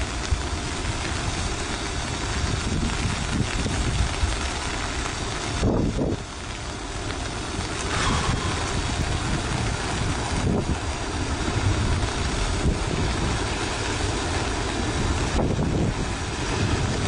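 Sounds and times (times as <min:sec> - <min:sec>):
debris flow rumbling: 0:00.0 - 0:17.0
wind noise on microphone: 0:00.0 - 0:17.0.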